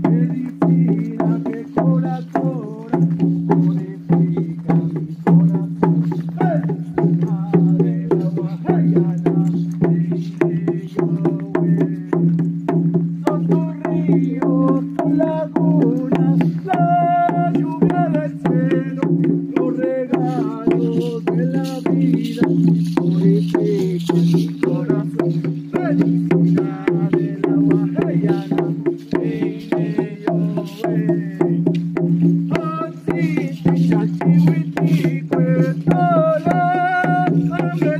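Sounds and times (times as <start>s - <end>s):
voices singing: 0.0s - 12.4s, 13.2s - 37.9s
steady percussion beat: 0.0s - 37.9s.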